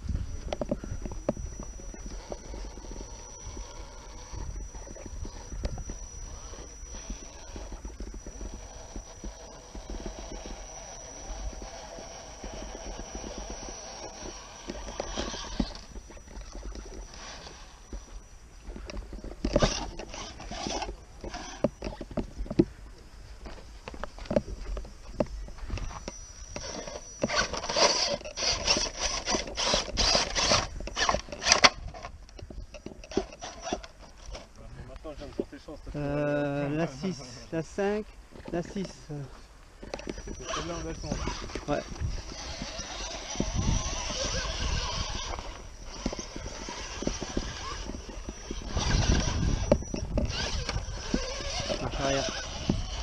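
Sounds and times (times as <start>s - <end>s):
toy car motor whirring: 0.0s - 22.7s, 23.8s - 34.6s, 36.0s - 53.0s
tyres scrabbling on rock: 0.0s - 22.8s, 23.4s - 34.5s, 39.8s - 53.0s.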